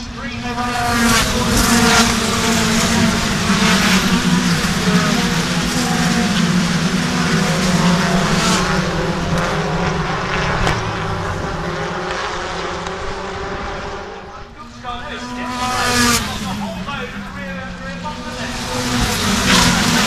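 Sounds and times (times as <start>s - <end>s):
racing cars passing: 0.0s - 20.0s.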